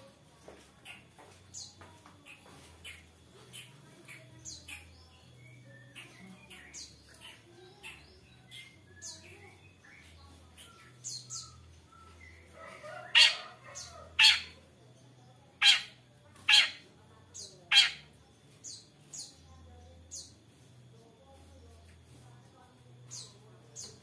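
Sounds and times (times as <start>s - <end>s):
faint high bird chirps: 0.8s - 24.0s.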